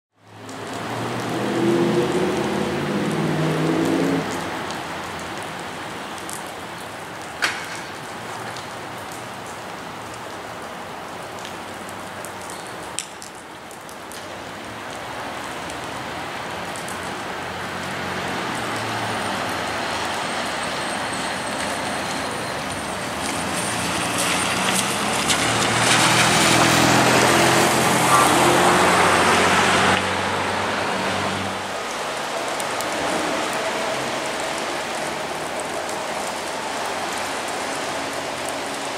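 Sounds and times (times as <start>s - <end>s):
cars passing on wet street: 0.2s - 38.9s
rain on wet pavement: 0.2s - 38.9s.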